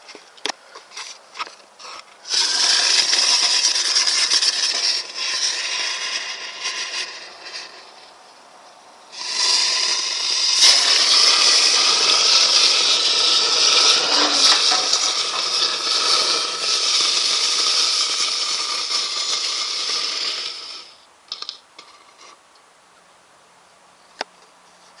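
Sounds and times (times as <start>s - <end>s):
firework hissing in metal mailbox: 1.8s - 8.4s, 9.0s - 22.4s.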